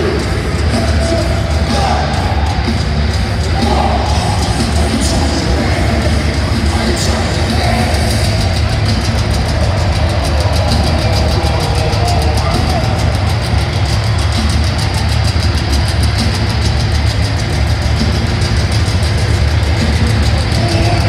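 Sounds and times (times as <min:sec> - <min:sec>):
distorted electric guitar: 0:00.0 - 0:21.0
fast cymbal beat: 0:00.0 - 0:21.0
heavy drums: 0:00.0 - 0:21.0
rumbling bass: 0:00.0 - 0:21.0.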